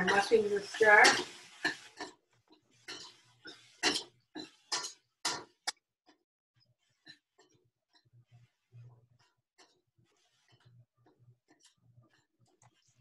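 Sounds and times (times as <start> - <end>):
utensil scraping a pan: 0.0 - 5.8, 6.6 - 13.0.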